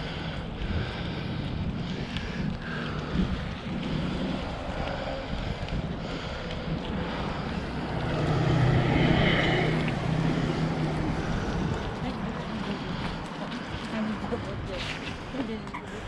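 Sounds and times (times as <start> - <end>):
wind rushing over microphone: 0.0 - 15.4.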